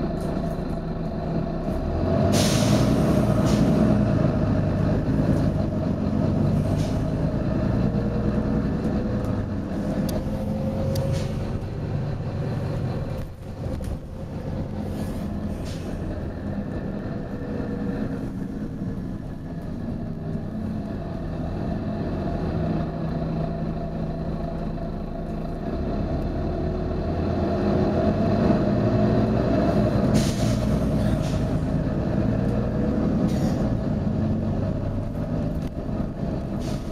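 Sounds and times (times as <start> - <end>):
bus diesel engine whining: 0.0 - 36.9.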